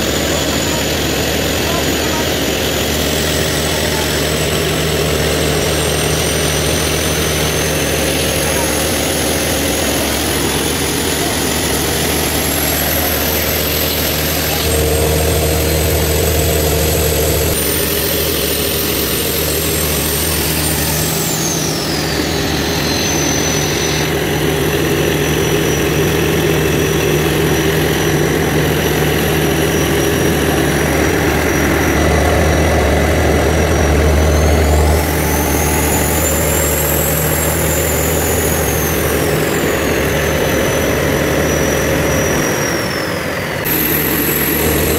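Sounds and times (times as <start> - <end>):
diesel generator engine humming: 0.0 - 44.9
high whine sliding in pitch: 0.0 - 44.9.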